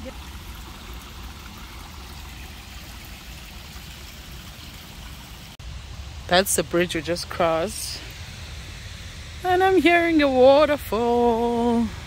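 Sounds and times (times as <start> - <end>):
rushing stream and waterfall: 0.0 - 12.0.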